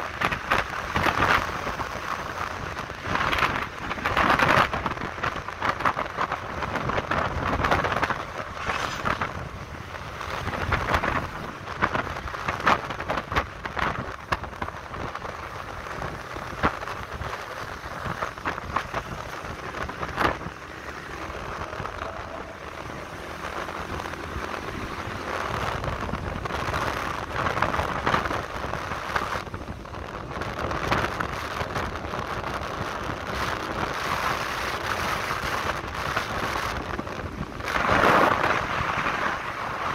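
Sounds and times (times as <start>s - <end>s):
road noise: 0.0s - 39.9s
wind buffeting microphone: 0.0s - 39.9s.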